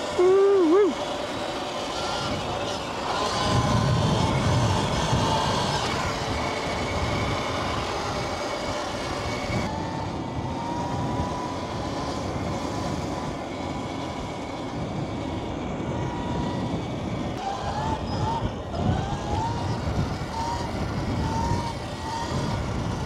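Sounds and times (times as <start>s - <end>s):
electric motor whine: 0.0s - 23.0s
rushing wind: 0.0s - 23.0s.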